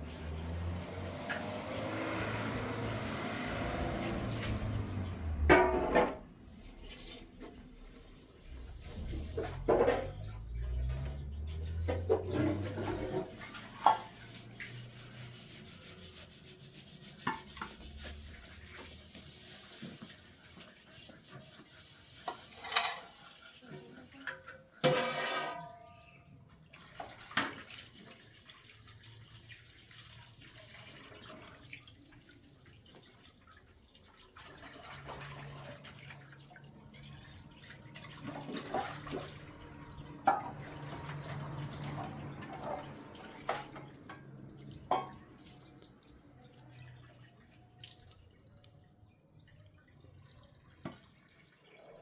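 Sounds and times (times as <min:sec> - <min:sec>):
water running: 0:00.0 - 0:24.3, 0:24.9 - 0:48.8.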